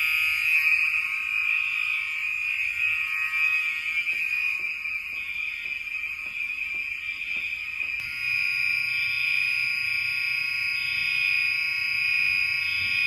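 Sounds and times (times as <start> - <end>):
fire alarm tone: 0.0 - 13.0.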